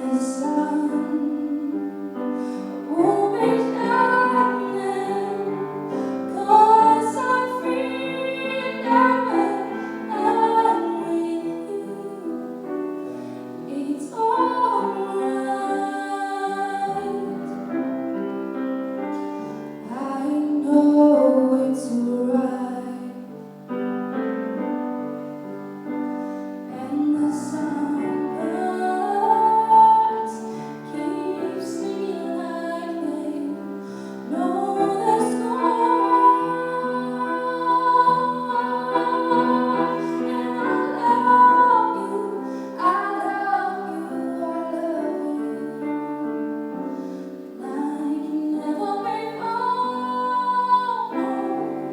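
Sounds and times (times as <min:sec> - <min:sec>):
woman singing: 0:00.0 - 0:18.0, 0:19.8 - 0:23.5, 0:26.7 - 0:51.9
piano accompaniment: 0:00.0 - 0:51.9.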